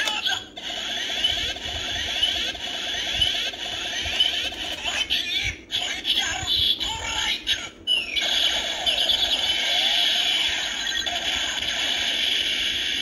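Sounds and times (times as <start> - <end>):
toy belt electronic sound loop: 0.0 - 13.0.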